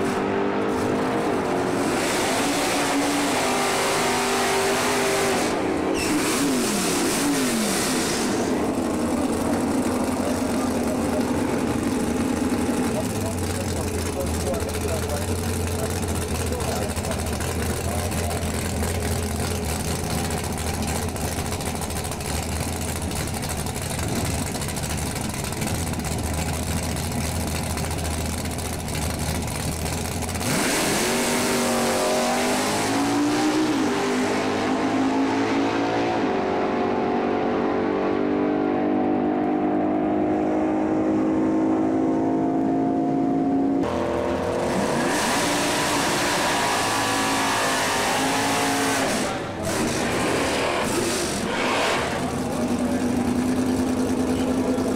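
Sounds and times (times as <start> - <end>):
drag car engine revving: 0.0 - 54.9.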